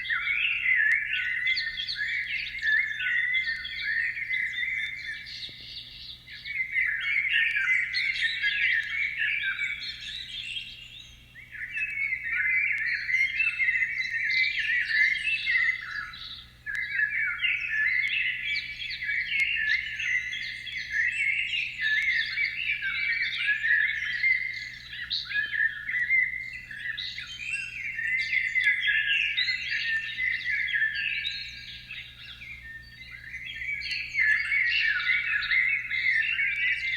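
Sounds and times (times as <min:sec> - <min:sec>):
birds chirping and chattering: 0:00.0 - 0:36.9.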